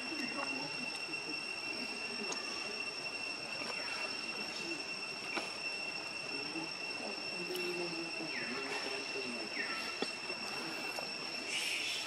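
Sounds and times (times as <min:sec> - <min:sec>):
falling whistle-like calls: 0:00.0 - 0:12.0
high-pitched insect drone: 0:00.0 - 0:12.0.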